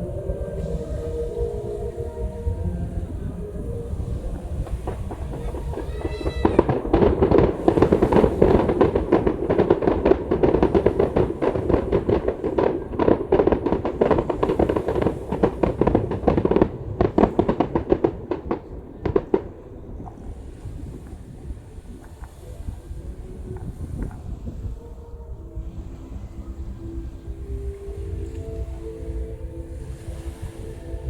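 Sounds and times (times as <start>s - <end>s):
fireworks bangs and crackles: 0.0s - 24.9s
firework whistle: 0.0s - 31.0s.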